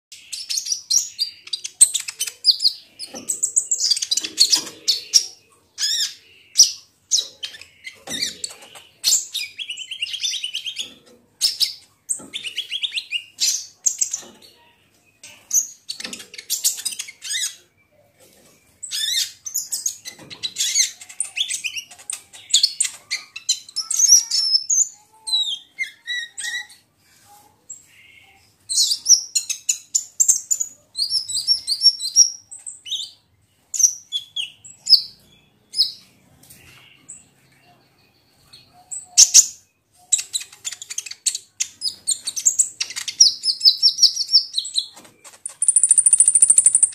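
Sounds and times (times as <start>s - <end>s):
bird twittering chirps and trills: 0.1s - 26.9s, 27.7s - 46.9s.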